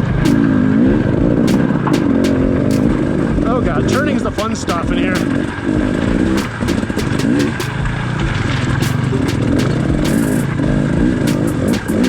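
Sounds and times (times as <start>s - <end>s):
dirt bike engine at low speed: 0.0s - 12.0s
sharp knocks and clicks: 0.0s - 12.0s.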